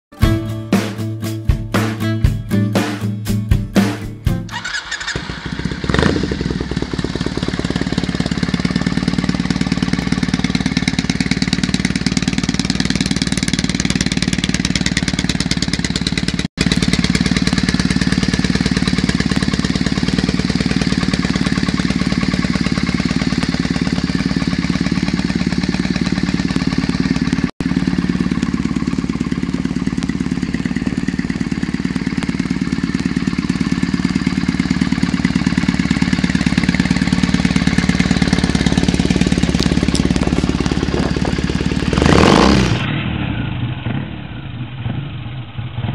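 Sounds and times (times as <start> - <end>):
motorcycle engine idling: 4.5 - 45.9.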